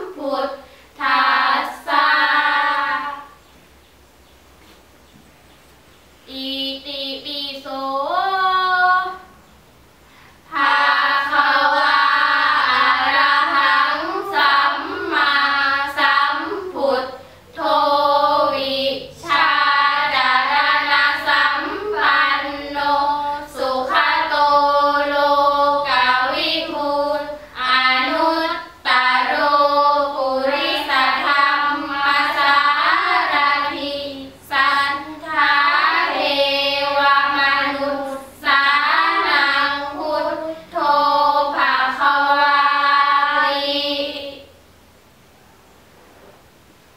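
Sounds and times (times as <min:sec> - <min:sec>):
girls chanting together: 0:00.0 - 0:03.4, 0:06.3 - 0:09.4, 0:10.4 - 0:44.5.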